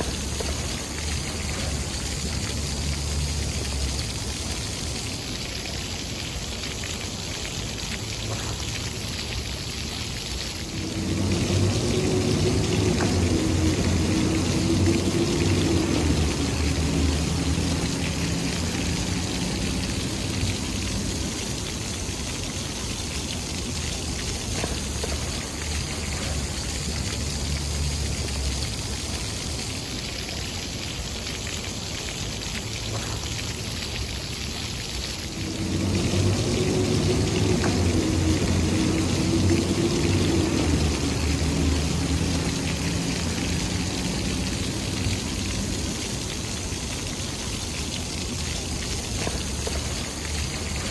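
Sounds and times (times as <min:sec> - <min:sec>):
fountain jets splashing: 0:00.0 - 0:50.9.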